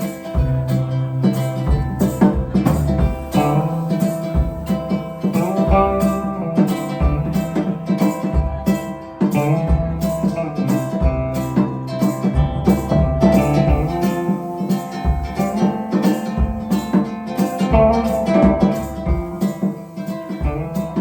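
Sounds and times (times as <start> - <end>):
acoustic guitar strummed: 0.0 - 21.0.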